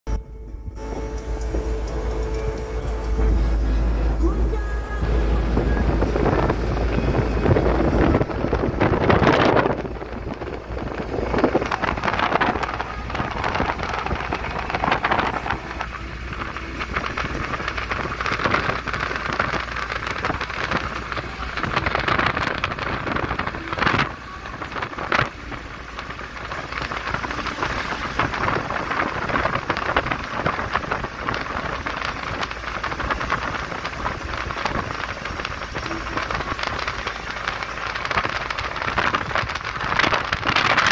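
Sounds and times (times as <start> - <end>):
vehicle road and wind noise: 0.1 - 40.9.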